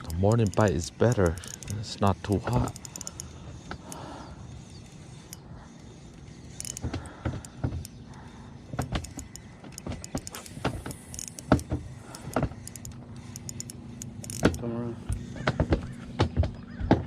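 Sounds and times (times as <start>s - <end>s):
sharp clicks and knocks: 0.0s - 4.0s, 4.8s - 17.0s
boat motor running: 0.0s - 17.0s.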